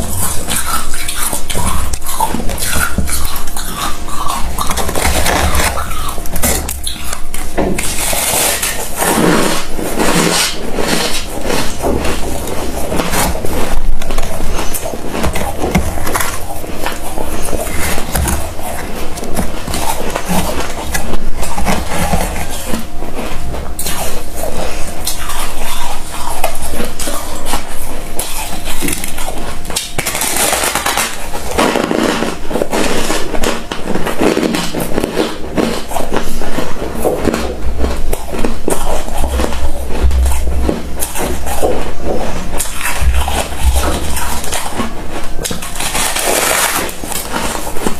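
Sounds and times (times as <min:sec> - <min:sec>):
frost being chewed: 0:00.0 - 0:47.9.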